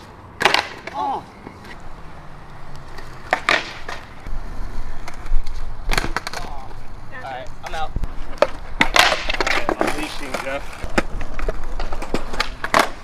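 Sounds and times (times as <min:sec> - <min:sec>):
skateboard deck slapping ground: 0:00.0 - 0:13.0
skateboard wheels rolling: 0:00.0 - 0:13.0.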